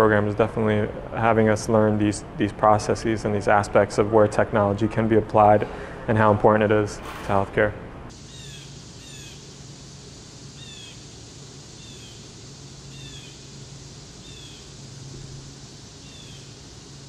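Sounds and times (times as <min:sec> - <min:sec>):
soft background hiss: 0:00.0 - 0:17.0
steady low hum: 0:00.0 - 0:17.0.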